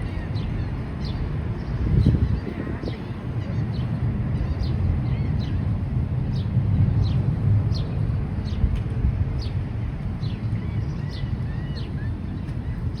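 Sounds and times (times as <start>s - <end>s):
jet airliner rumbling overhead: 0.0s - 13.0s.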